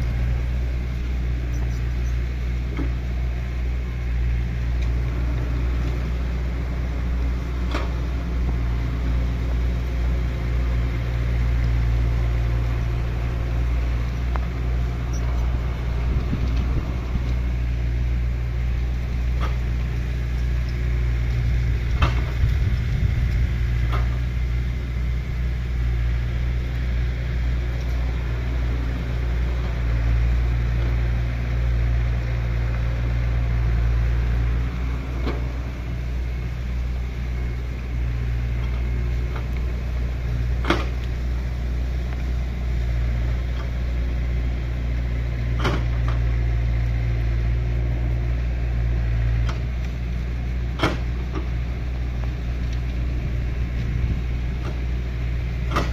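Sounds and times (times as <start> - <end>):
excavator diesel engine rumbling: 0.0 - 55.9.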